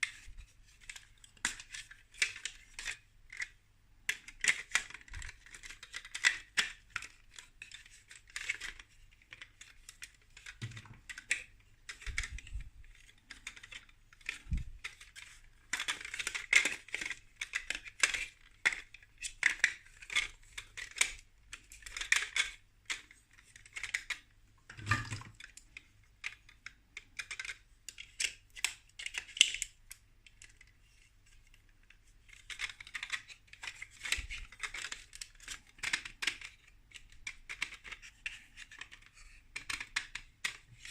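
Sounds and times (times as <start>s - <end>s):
plastic bricks clicking and clattering: 4.1s - 30.7s, 32.2s - 40.9s.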